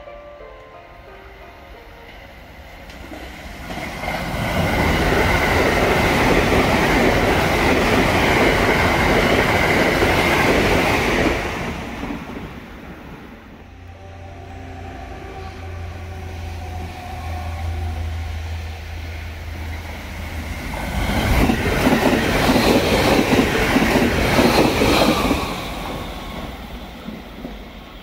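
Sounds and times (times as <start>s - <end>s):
electric train passing at speed: 0.0s - 28.0s.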